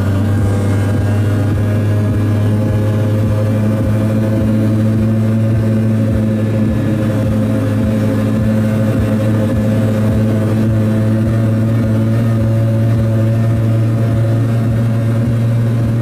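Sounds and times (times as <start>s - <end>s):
two-stroke engine droning: 0.0s - 16.0s.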